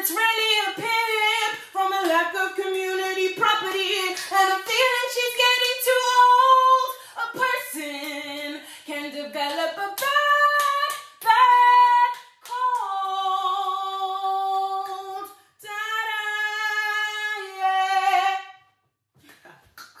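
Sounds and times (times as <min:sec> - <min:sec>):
woman singing unaccompanied: 0:00.0 - 0:18.5.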